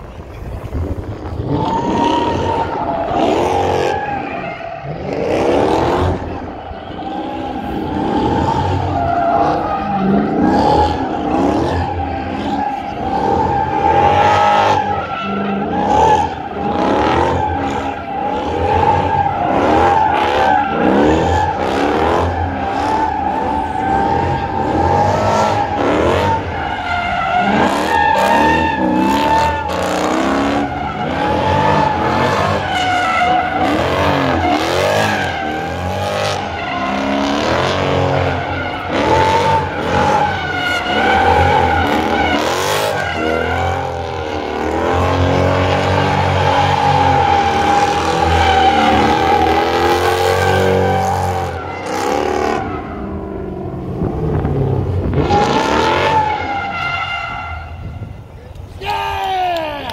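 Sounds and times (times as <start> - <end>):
car engine revving: 0.0 - 57.7
tyres squealing: 1.5 - 53.1.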